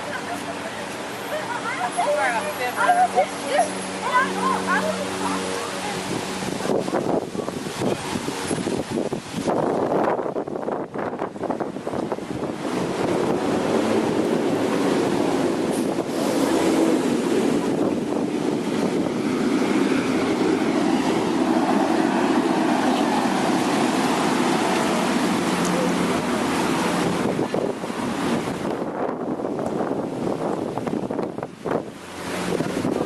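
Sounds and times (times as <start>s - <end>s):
ocean surf breaking on beach: 0.0s - 33.0s
wind buffeting microphone: 0.0s - 33.0s.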